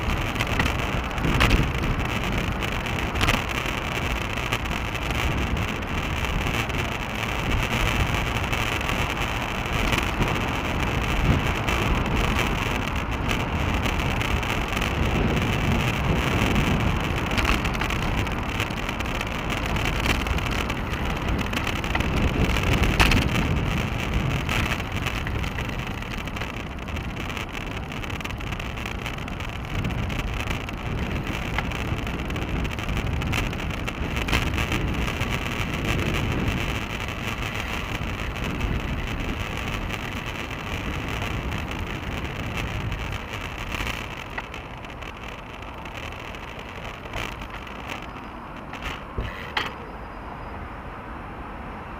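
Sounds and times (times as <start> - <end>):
wind rush: 0.0 - 49.6
road rumble: 0.0 - 51.9.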